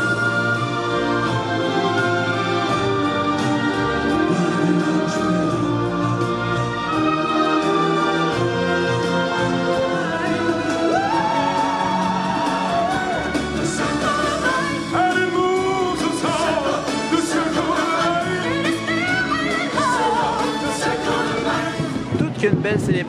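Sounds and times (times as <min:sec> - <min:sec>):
voices singing: 0:00.0 - 0:22.2
orchestral backing music: 0:00.0 - 0:23.0.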